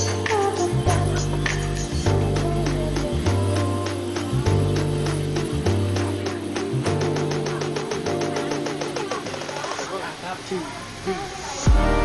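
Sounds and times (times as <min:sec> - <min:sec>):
background music with steady beat: 0:00.0 - 0:10.1, 0:11.6 - 0:12.0.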